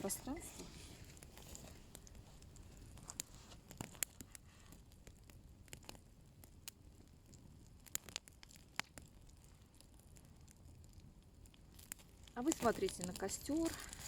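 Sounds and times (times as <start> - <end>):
small bonfire crackling: 0.0 - 14.0.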